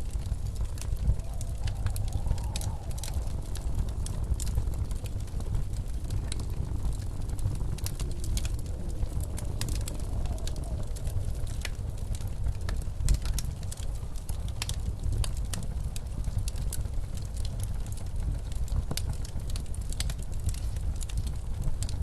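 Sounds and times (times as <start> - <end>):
blizzard wind rumble: 0.0 - 22.0
wood fire crackling: 0.0 - 22.0.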